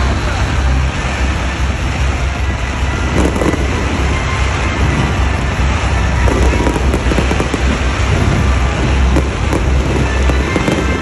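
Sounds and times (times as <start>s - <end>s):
fireworks barrage rumbling: 1.4s - 11.0s.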